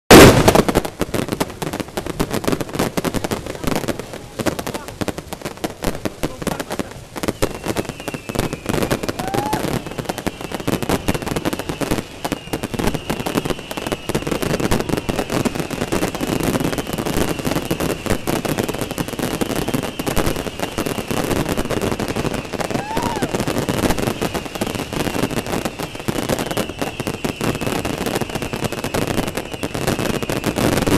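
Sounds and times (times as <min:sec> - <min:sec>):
fireworks crackling: 0:00.1 - 0:30.9.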